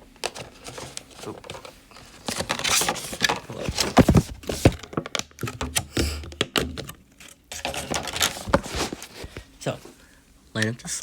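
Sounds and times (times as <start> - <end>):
hands tapping computer parts: 0.2 - 9.5.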